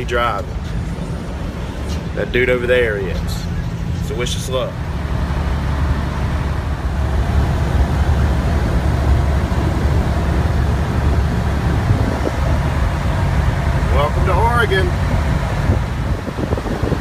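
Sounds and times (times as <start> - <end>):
truck diesel engine rumble: 0.0 - 17.0
tyre and road noise: 0.0 - 17.0.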